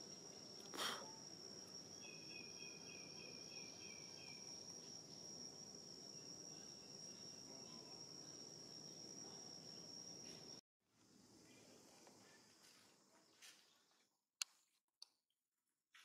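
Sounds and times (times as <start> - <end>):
insects droning: 0.0 - 13.4.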